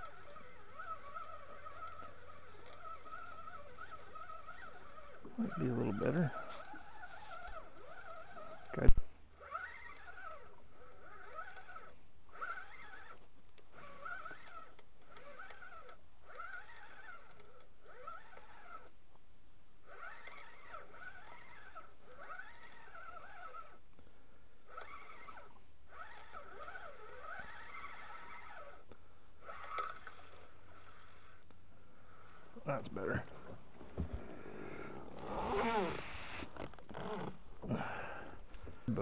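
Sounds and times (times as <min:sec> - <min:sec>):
fishing reel gear whine: 0:00.0 - 0:19.0, 0:19.8 - 0:23.9, 0:24.5 - 0:33.3, 0:34.2 - 0:39.0.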